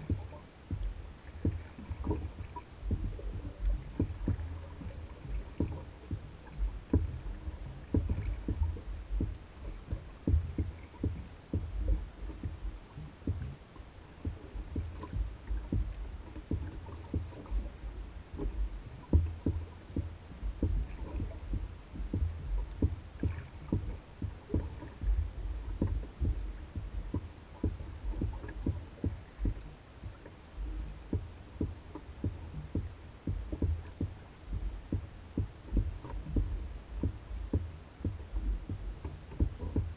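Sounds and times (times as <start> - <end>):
low rumble: 0.0 - 39.9
waves lapping against canoe hull: 0.0 - 39.9.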